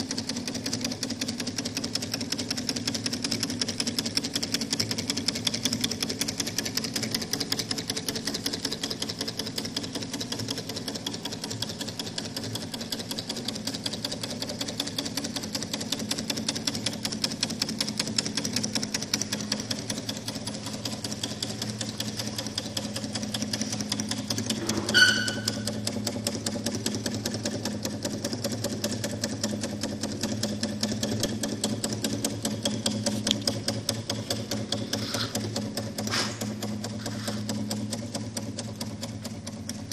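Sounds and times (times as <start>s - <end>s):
small engine ticking clatter: 0.0s - 39.9s.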